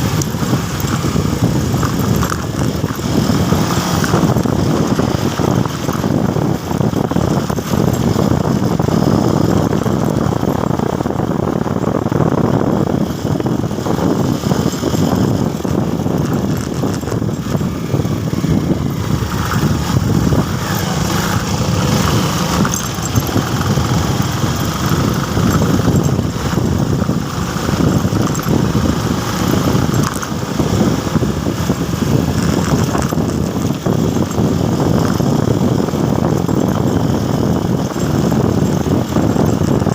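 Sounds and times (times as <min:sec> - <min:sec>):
motorcycle engine and road noise: 0:00.0 - 0:39.9.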